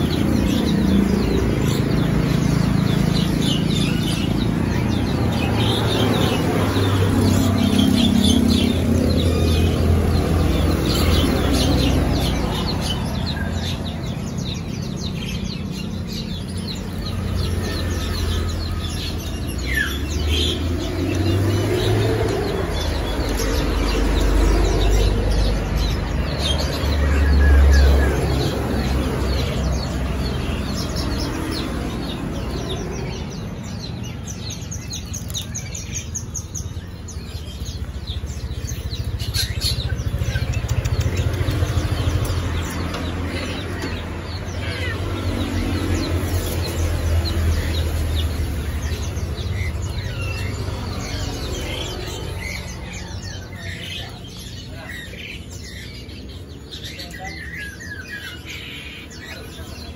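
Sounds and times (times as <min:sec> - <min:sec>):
small caged birds chirping: 0:00.0 - 0:59.9.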